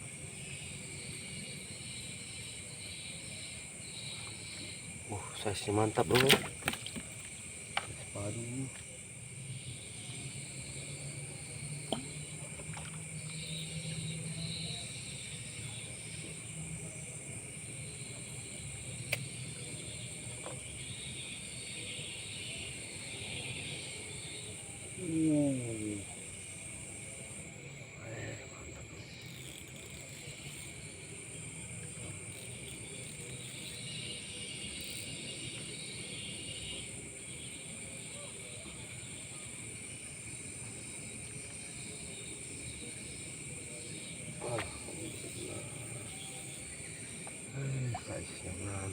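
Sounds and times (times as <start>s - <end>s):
crickets and insects trilling: 0.0s - 48.9s.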